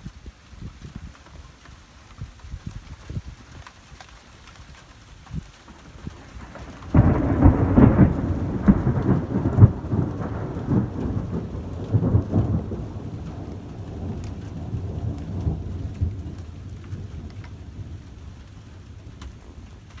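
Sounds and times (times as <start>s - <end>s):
steady rain: 0.0s - 20.0s
thunder rumbling and crackling: 0.0s - 20.0s.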